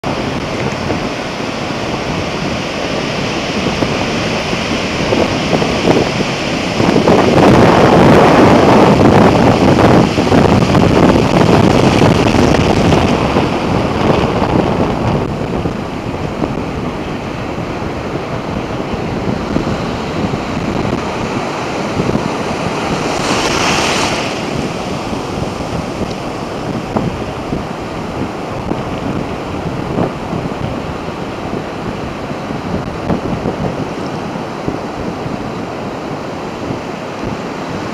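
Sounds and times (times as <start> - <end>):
ocean surf breaking: 0.0 - 37.9
wind buffeting microphone: 0.0 - 37.9.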